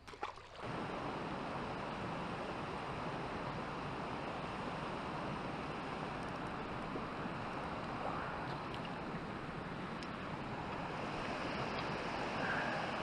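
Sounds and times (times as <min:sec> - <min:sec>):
shallow river rushing over riffles: 0:00.2 - 0:13.0.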